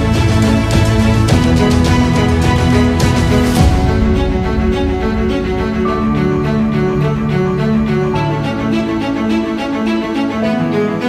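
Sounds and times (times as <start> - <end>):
background string music: 0.0 - 11.0.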